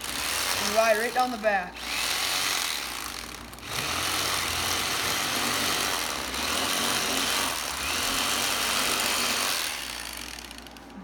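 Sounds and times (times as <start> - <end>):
electric knife running: 0.0 - 11.0.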